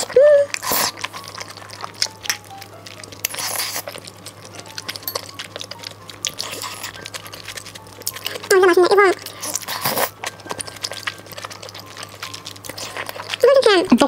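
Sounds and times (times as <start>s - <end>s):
chewing and wet mouth noises: 0.0s - 14.0s
soft background music: 0.0s - 14.0s.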